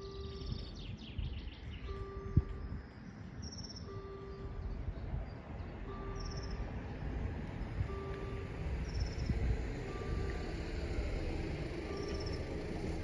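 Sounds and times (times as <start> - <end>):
level crossing warning bell: 0.0 - 0.8, 1.8 - 4.9, 5.8 - 13.0
bird chirping: 0.0 - 10.4, 11.9 - 12.6.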